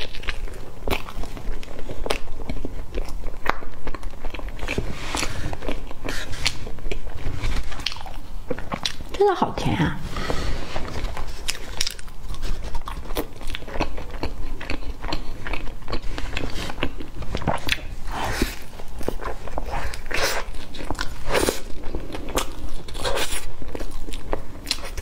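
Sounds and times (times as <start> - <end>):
chewing with lip smacks: 0.0 - 9.2, 10.8 - 25.0.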